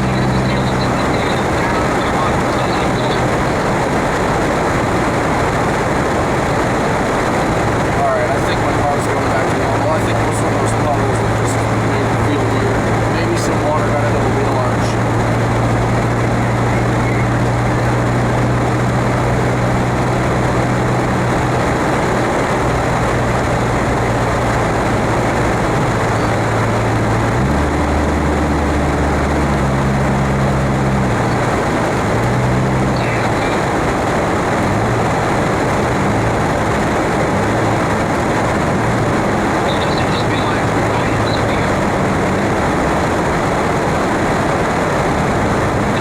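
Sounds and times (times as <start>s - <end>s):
car engine drone: 0.0s - 46.0s.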